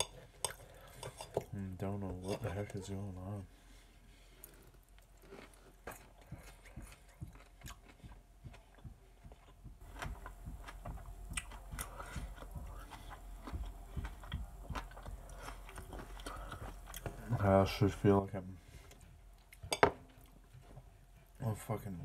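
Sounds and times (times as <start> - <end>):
man chewing food: 0.0 - 1.6, 3.6 - 21.4.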